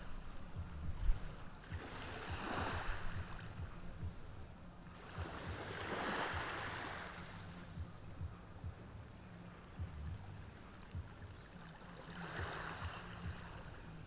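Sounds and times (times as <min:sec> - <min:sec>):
ocean waves washing ashore: 0:00.0 - 0:14.0.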